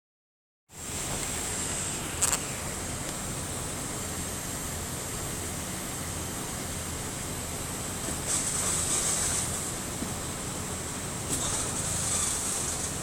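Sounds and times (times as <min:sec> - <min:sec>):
drivetrain and road noise: 0:00.7 - 0:13.0.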